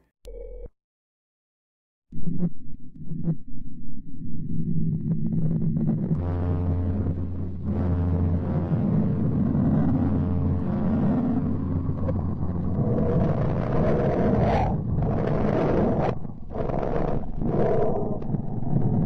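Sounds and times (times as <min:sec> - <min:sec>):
rough rumbling drone: 0:02.2 - 0:19.0
steady low hum: 0:02.2 - 0:19.0.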